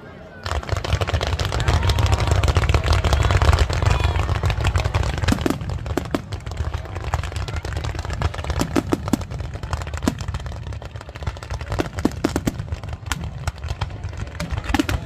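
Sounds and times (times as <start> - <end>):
fireworks cracking and popping: 0.4 - 15.0.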